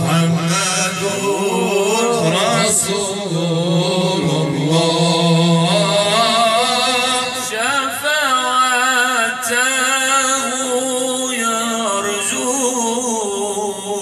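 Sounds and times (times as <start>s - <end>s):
man singing melismatic lead: 0.0s - 14.0s
men singing a held drone note: 0.0s - 14.0s.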